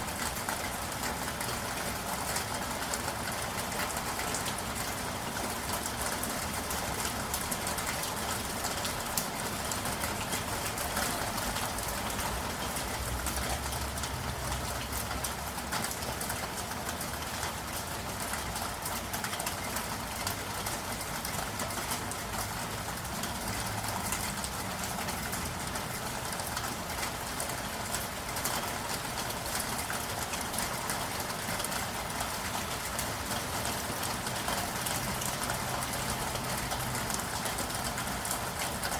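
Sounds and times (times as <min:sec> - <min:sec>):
rain on a street: 0:00.0 - 0:38.9.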